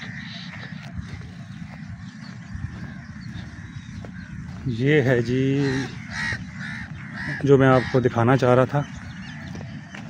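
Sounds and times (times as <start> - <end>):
crows calling: 0.0 - 10.0
wind rumble on microphone: 0.0 - 10.0.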